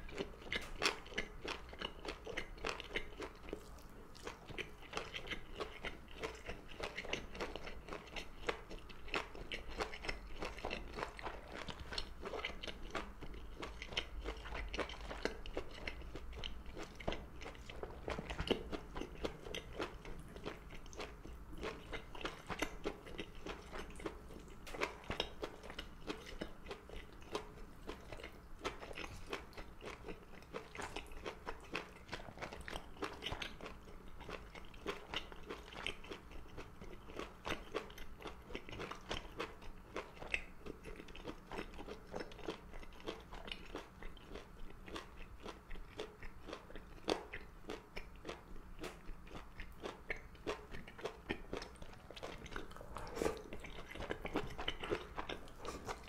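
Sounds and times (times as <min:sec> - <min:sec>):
chewing and crunching food: 0:00.0 - 0:56.0.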